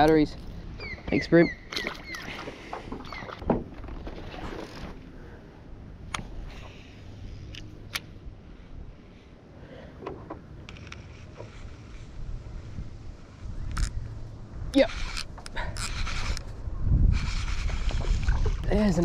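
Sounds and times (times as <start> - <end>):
wind and water rumble: 0.0 - 19.0.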